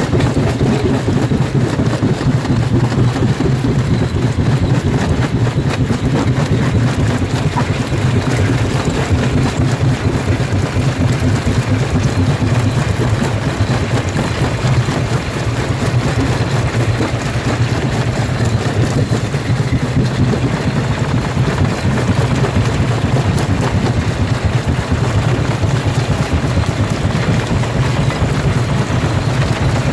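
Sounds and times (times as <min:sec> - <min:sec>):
rock crusher low drone: 0:00.0 - 0:29.9.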